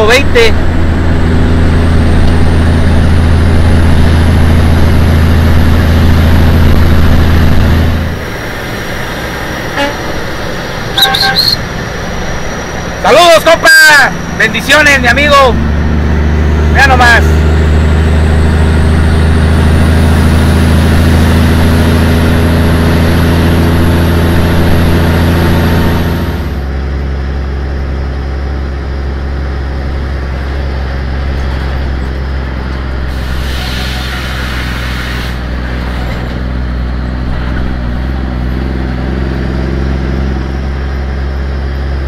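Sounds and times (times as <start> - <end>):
high engine whine: 0.0 - 42.0
truck engine running: 0.0 - 42.0.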